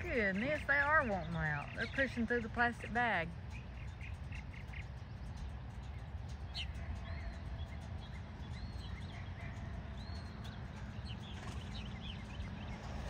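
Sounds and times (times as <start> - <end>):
birds chirping overhead: 0.0 - 13.0
steady low rumble: 0.0 - 13.0.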